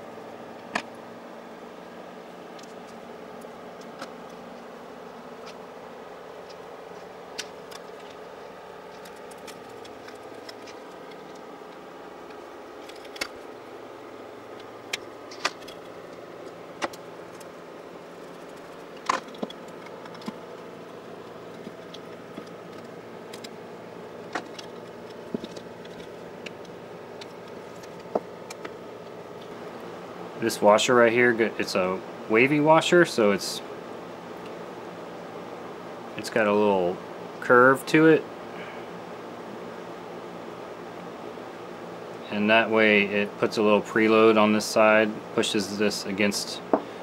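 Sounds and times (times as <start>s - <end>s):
steady background hum: 0.0s - 47.0s.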